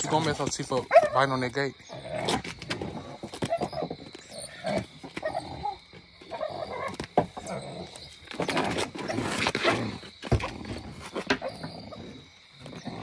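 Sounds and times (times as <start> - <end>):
animal grunts and growls: 0.0 - 13.0.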